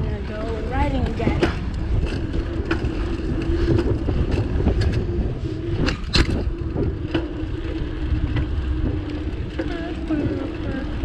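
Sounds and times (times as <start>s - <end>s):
bicycle tyres rumbling: 0.0s - 11.0s
bike clicks and rattles: 0.0s - 11.0s
steady hum: 0.0s - 11.0s.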